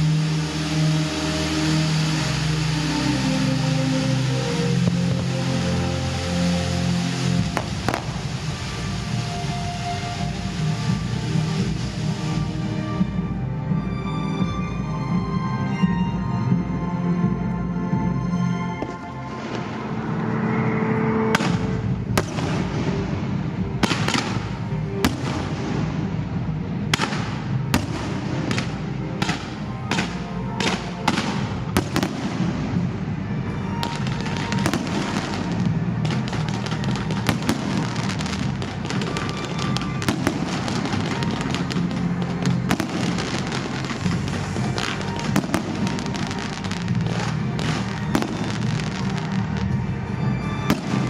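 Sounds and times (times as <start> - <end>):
fireworks bangs and crackles: 0.0 - 13.8, 18.7 - 20.5, 21.2 - 51.0
music: 0.0 - 51.0.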